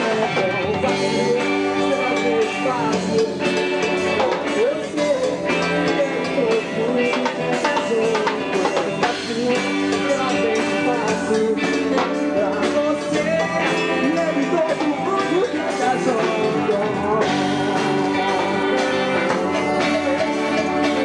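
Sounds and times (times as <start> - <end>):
drums: 0.0 - 21.0
live band music: 0.0 - 21.0
man singing into a microphone: 0.0 - 21.0.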